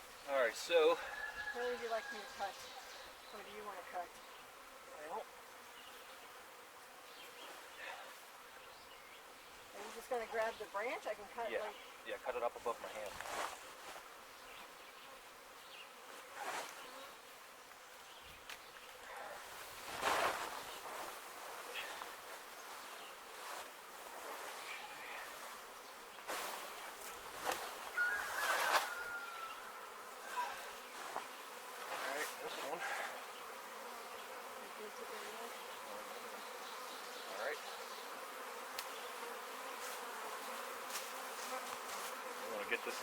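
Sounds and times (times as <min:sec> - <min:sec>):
bee swarm buzzing: 0:00.0 - 0:43.0.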